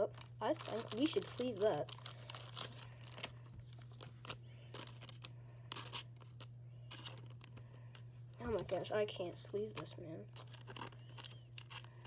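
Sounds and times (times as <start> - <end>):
plastic sleeve rustling: 0.0 - 12.0.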